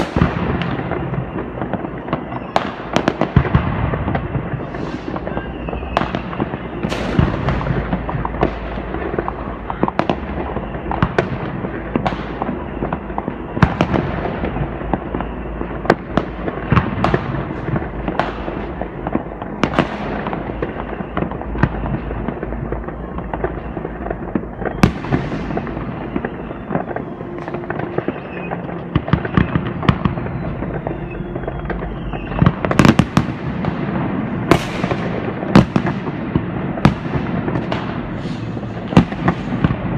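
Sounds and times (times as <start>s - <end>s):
crackling rumble: 0.0s - 39.9s
firecrackers and rocket bangs: 0.0s - 39.9s.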